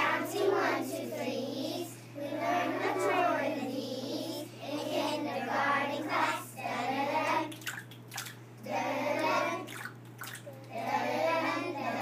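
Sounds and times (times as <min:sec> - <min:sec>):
young children singing: 0:00.0 - 0:07.6, 0:08.6 - 0:09.8, 0:10.5 - 0:12.0.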